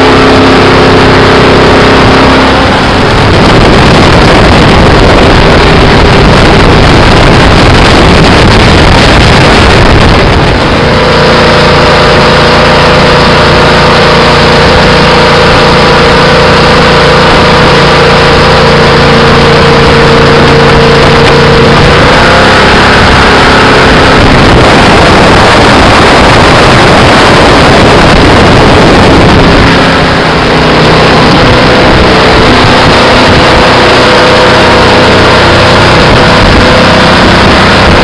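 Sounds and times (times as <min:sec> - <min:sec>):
jet boat engine drone: 0:00.0 - 0:38.0
rushing water: 0:00.0 - 0:38.0
wind: 0:00.0 - 0:38.0.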